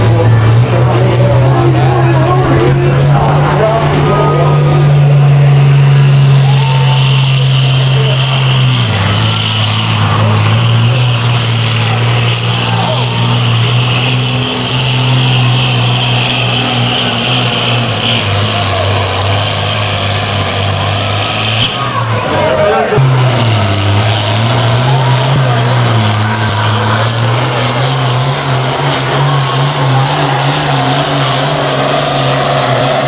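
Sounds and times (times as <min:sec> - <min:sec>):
high whine: 0:00.0 - 0:33.0
tractor diesel engine under load: 0:00.0 - 0:33.0.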